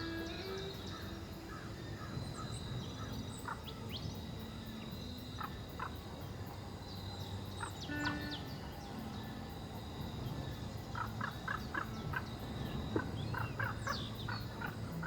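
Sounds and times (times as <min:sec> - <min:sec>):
birds chirping: 0:00.0 - 0:15.0
low background noise: 0:00.0 - 0:15.0.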